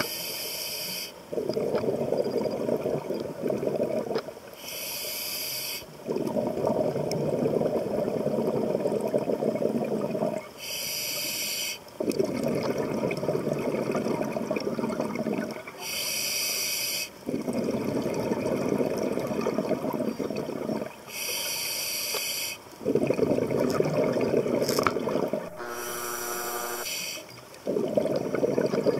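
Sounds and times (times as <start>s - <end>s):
bubbling exhaled air: 1.3s - 4.3s, 5.8s - 10.6s, 12.0s - 16.0s, 17.2s - 28.9s.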